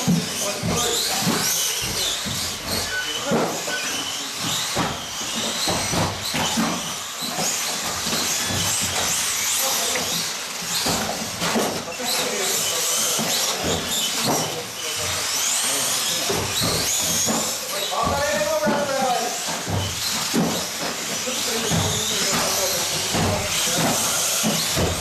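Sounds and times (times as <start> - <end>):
rc car motors whining: 0.0 - 25.0.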